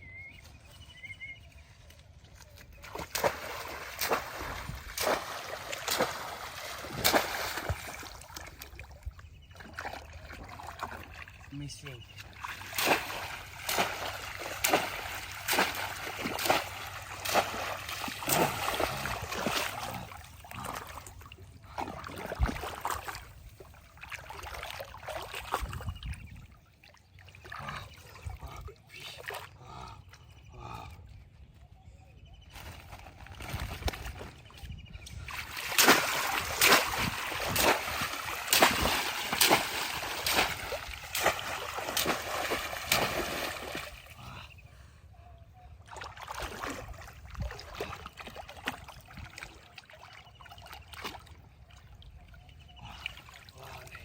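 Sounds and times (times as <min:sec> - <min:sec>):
shallow water splashing: 0:02.5 - 0:29.7, 0:32.6 - 0:44.6, 0:45.8 - 0:54.0.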